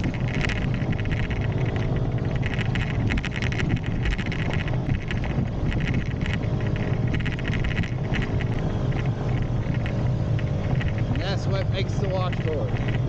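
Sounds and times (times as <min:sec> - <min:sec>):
motorbike engine running: 0:00.0 - 0:13.0
rattling: 0:00.0 - 0:13.0
wind buffeting microphone: 0:00.0 - 0:13.0.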